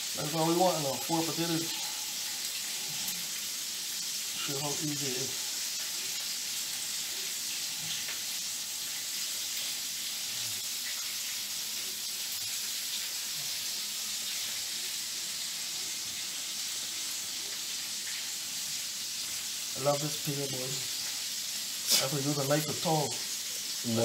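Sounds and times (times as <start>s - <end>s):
hot oil sizzling in a pan: 0.0s - 24.0s.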